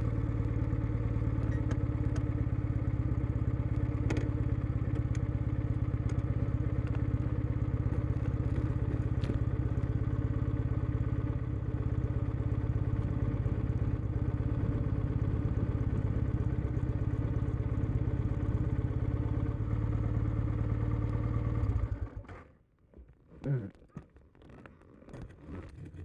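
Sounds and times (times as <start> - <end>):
motorcycle engine idling: 0.0 - 22.4.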